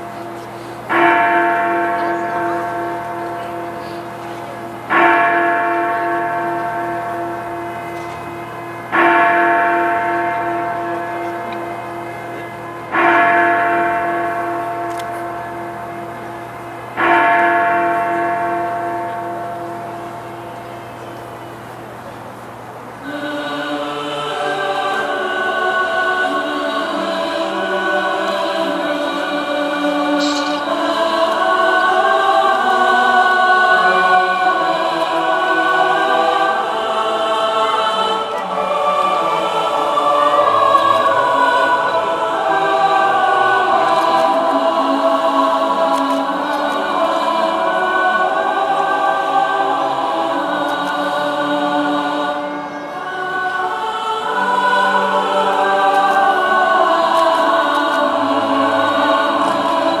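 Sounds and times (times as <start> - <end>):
choir singing sustained notes: 0.0 - 60.0.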